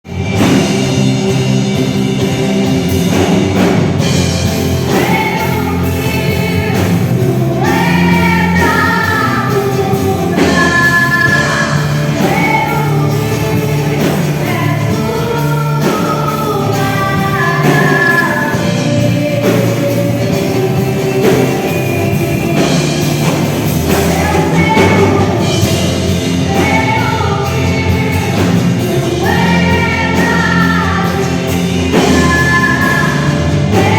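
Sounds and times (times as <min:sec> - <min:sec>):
live band playing: 0:00.0 - 0:33.9
person singing: 0:04.5 - 0:33.9.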